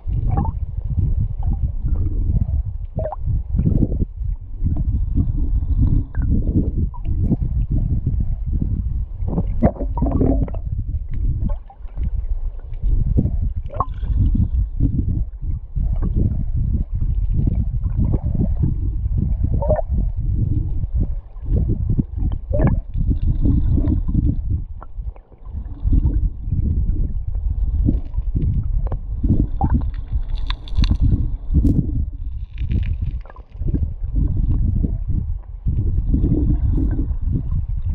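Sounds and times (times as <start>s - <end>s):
underwater river rumble and gurgle: 0.0s - 37.9s.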